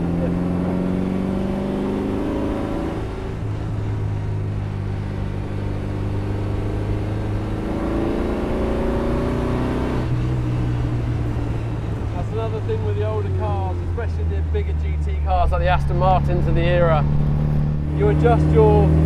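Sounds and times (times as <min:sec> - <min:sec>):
car engine under way: 0:00.0 - 0:19.0
road and wind noise: 0:00.0 - 0:19.0.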